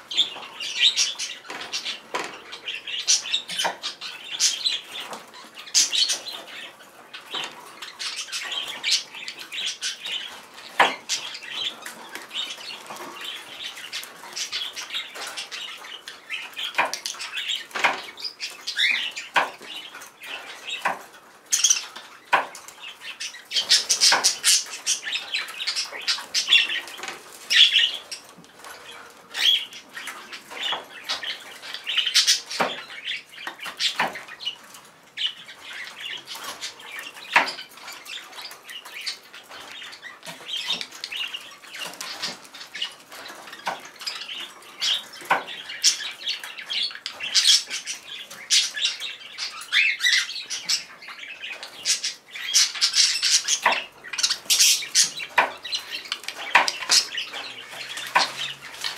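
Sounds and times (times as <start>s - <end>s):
budgerigars chattering and chirping: 0.0s - 58.9s.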